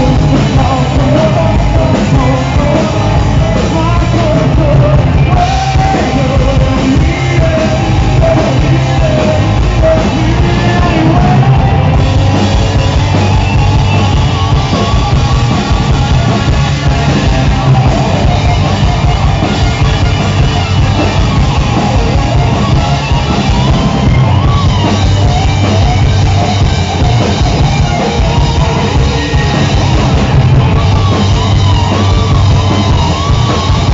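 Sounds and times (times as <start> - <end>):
drums: 0.0 - 33.9
electric guitars: 0.0 - 33.9
person singing: 0.0 - 33.9.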